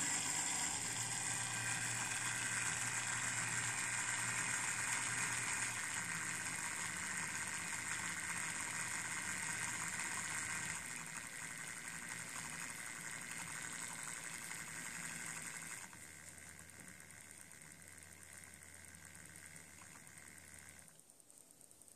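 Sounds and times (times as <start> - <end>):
small motor whirring: 0.0 - 21.9.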